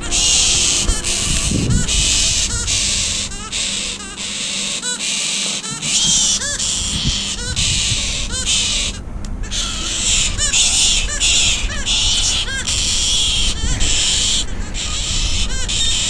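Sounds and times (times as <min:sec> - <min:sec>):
galah screeching: 0:00.0 - 0:16.0
steady high hiss: 0:00.0 - 0:16.0.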